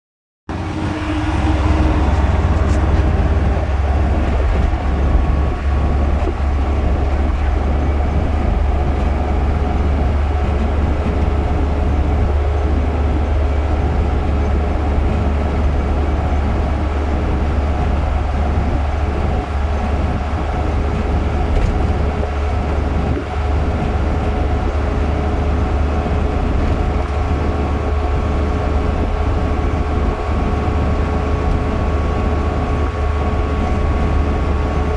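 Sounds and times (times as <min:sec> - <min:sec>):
vehicle engine and road rumble: 0:00.5 - 0:34.9.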